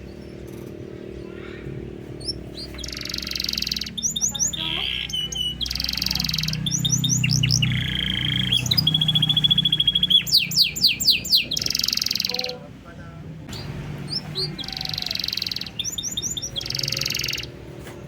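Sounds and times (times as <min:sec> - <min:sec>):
canary singing: 0:00.0 - 0:17.8.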